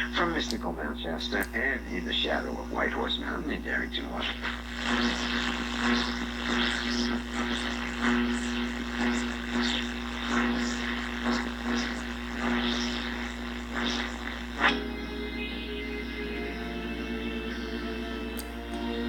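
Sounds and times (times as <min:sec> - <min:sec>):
radio static: 0:00.0 - 0:19.0
radio station audio: 0:00.0 - 0:19.0
steady low hum: 0:00.0 - 0:19.0.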